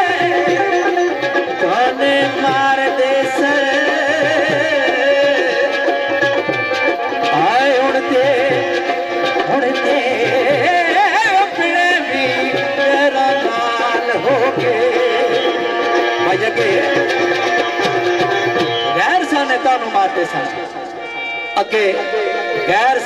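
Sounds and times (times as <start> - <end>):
hand drum beat: 0.0 - 19.1
banjo melody: 0.0 - 23.0
harmonium: 0.0 - 23.0.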